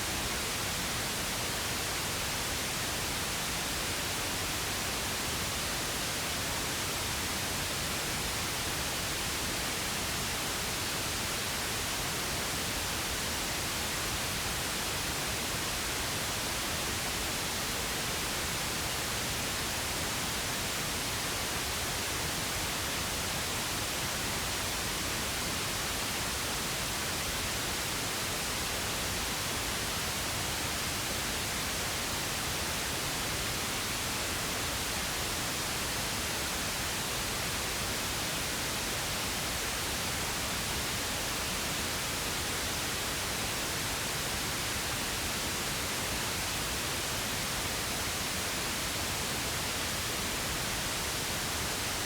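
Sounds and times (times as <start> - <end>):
pink noise hiss: 0.0 - 52.0.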